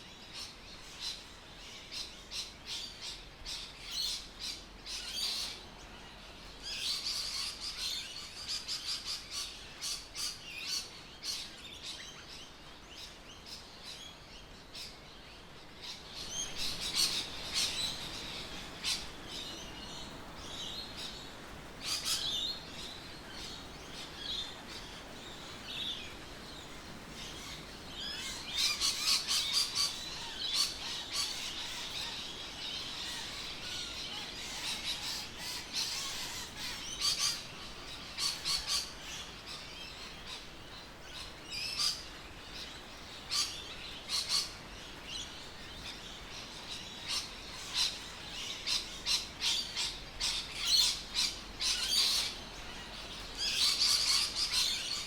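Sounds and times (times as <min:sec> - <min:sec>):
background hiss: 0:00.0 - 0:55.0
birds chirping: 0:00.0 - 0:55.0.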